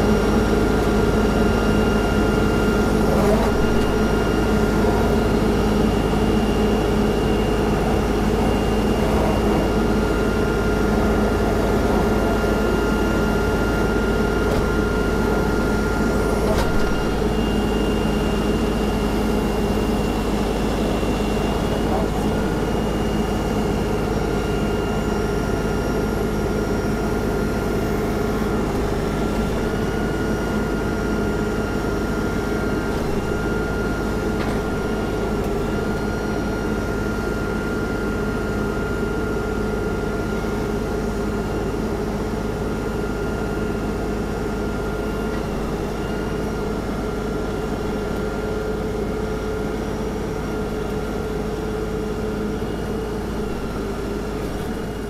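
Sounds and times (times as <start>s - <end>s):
thin steady whine: 0.0s - 55.0s
tractor diesel engine running: 0.0s - 55.0s.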